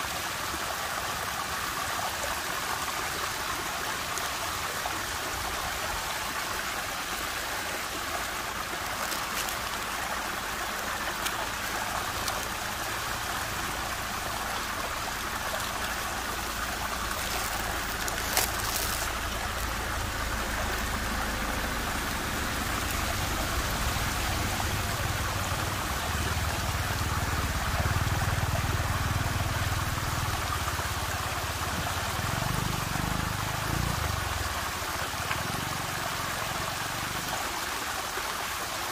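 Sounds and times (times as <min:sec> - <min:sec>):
whirlpool water rushing: 0:00.0 - 0:38.9.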